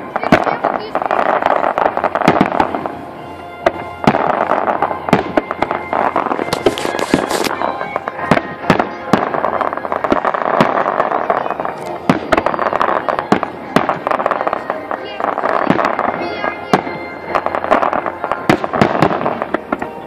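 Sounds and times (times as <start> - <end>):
firework shells bursting: 0.0 - 3.0, 3.6 - 20.0
firework crackling: 0.0 - 20.0.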